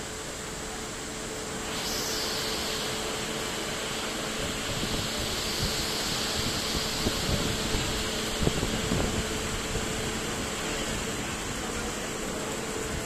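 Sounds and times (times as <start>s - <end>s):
locomotive blowers droning: 0.0s - 13.0s
rain hissing: 1.6s - 13.0s.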